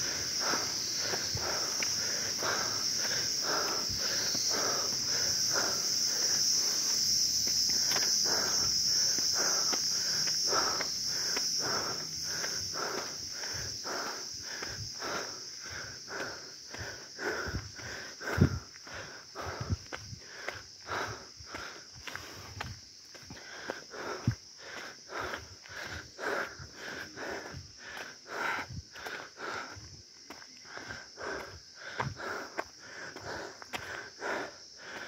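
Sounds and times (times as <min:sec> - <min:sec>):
footsteps on stone and dirt: 0:00.0 - 0:35.0
high-pitched insect chorus: 0:00.0 - 0:35.0.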